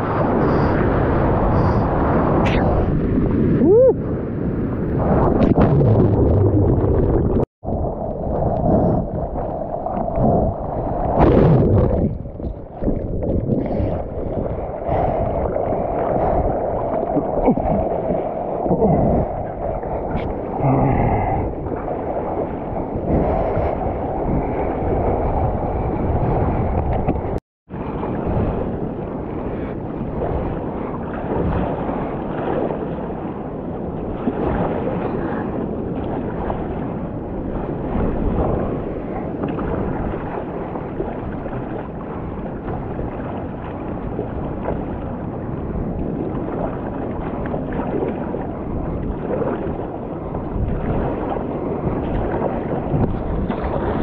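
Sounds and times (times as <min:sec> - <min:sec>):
wind buffeting microphone: 0:00.0 - 0:54.0
water sloshing and splashing: 0:04.8 - 0:28.7, 0:33.9 - 0:54.0.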